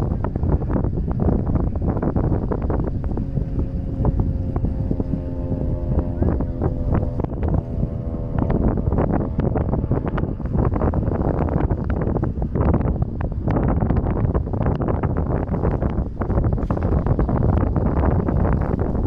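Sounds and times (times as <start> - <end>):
droning tone with overtones: 0.0 - 19.0
wind buffeting microphone: 0.0 - 19.0.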